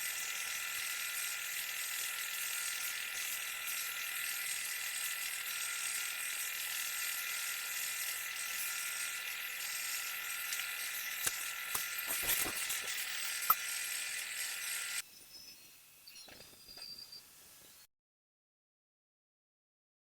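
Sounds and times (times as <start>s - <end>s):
wood lathe hissing and whining: 0.0s - 17.8s.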